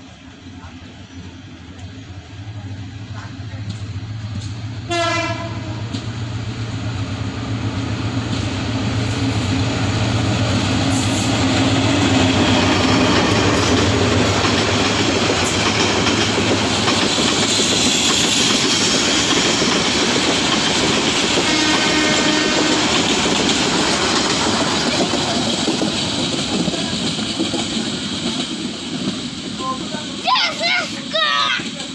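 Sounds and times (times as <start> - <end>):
locomotive engine hum: 0.0 - 31.9
train wheels clacking on rails: 0.0 - 31.9.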